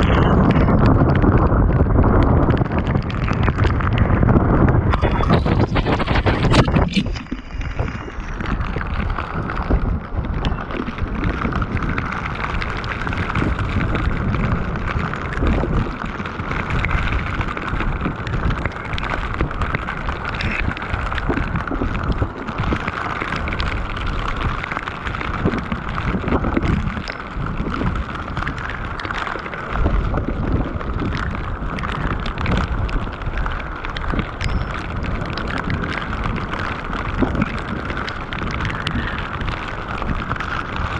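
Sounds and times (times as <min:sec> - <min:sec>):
heavy rain falling: 0:00.0 - 0:40.9
low rumble: 0:00.0 - 0:40.9
raindrops ticking near microphone: 0:00.0 - 0:40.9.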